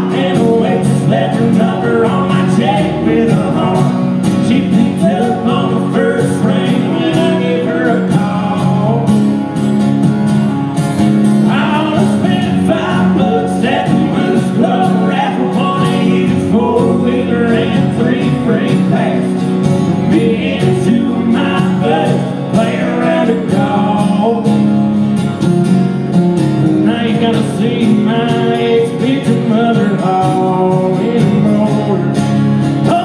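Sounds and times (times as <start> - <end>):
man singing: 0.0 - 9.3, 11.4 - 24.8, 26.7 - 33.0
acoustic guitars strumming: 0.0 - 33.0.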